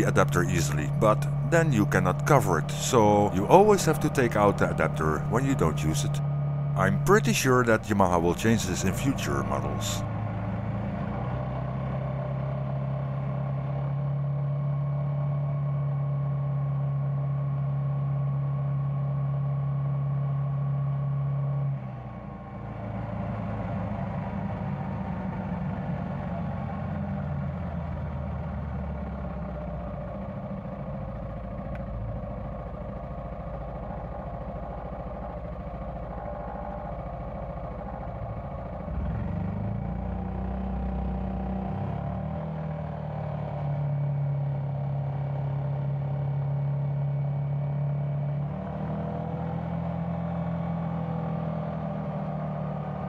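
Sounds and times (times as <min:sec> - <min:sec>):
scooter engine droning: 0:00.0 - 0:17.2, 0:21.6 - 0:53.0.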